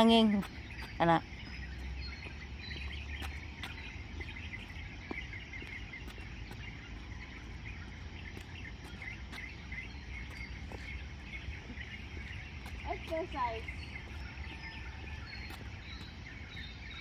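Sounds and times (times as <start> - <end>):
birds chirping: 0.0 - 17.0
insects chirping: 0.0 - 17.0
steady low rumble: 0.0 - 17.0.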